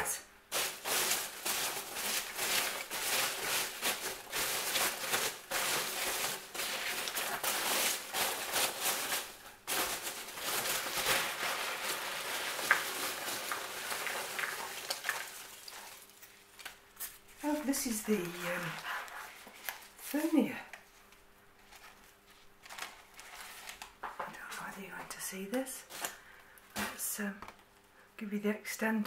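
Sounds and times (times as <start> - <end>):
packing material rustling: 0.0 - 20.5, 21.6 - 24.8.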